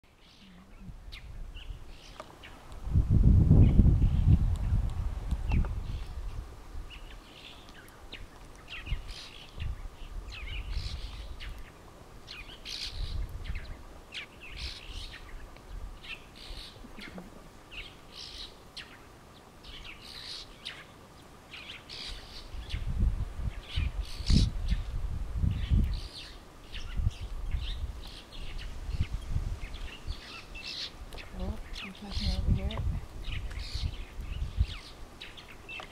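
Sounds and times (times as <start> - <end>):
small birds chirping: 0.0 - 2.8, 3.6 - 35.9.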